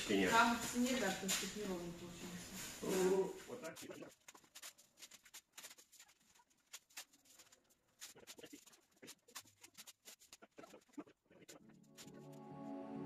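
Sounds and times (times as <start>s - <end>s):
underlay sheets rustling and crackling: 0.4s - 12.4s.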